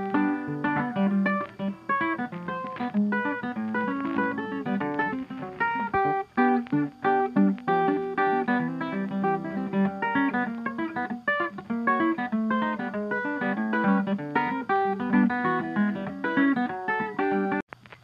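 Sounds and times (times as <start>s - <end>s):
plucked acoustic guitar: 0.0s - 17.6s.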